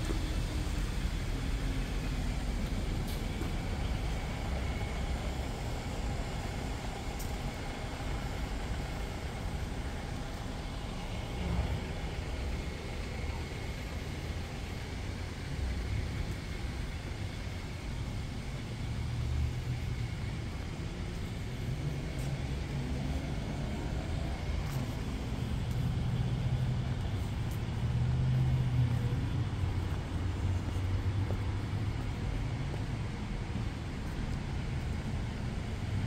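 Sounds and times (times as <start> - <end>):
distant city traffic rumble: 0.0 - 36.0.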